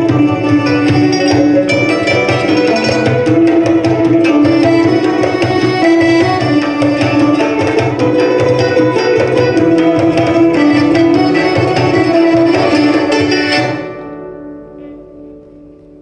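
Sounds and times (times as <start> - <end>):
hand drum strokes: 0.0 - 13.9
sustained melodic instruments: 0.0 - 16.0.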